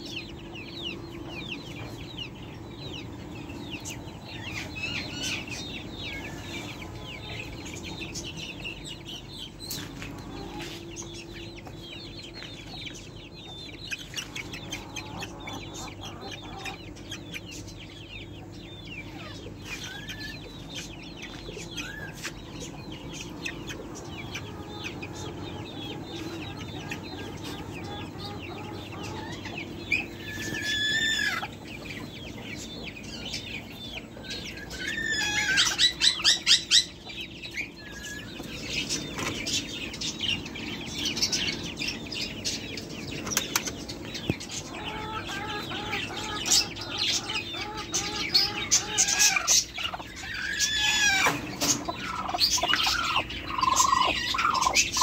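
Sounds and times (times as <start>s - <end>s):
chickens clucking: 0.0s - 55.0s
steady low hum: 0.0s - 55.0s.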